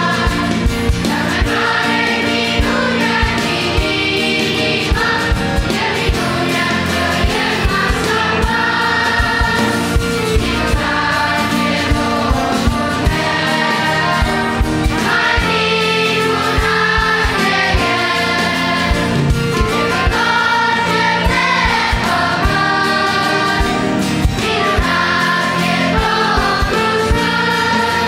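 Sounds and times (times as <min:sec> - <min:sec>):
children's choir singing a hymn: 0:00.0 - 0:28.0
live band playing: 0:00.0 - 0:28.0
steady drum beat: 0:00.0 - 0:28.0.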